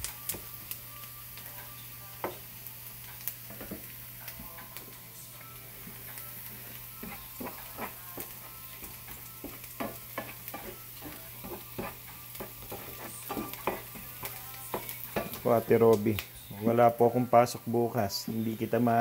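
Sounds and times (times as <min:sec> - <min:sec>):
aromatics sizzling in oil: 0:00.0 - 0:19.0.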